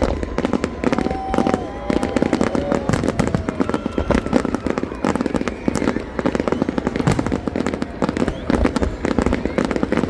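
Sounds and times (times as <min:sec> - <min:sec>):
fireworks cracking and popping: 0:00.0 - 0:10.0.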